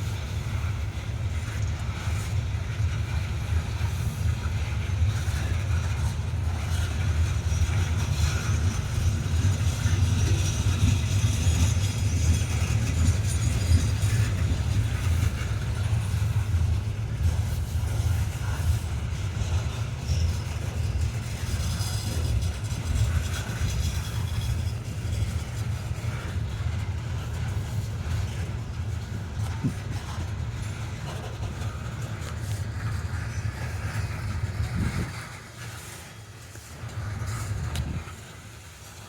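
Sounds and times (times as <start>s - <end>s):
train cars rumbling on rails: 0.0s - 39.0s.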